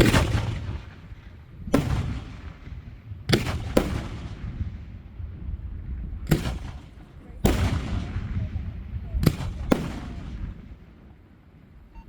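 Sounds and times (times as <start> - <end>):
fireworks booming: 0.0 - 11.2.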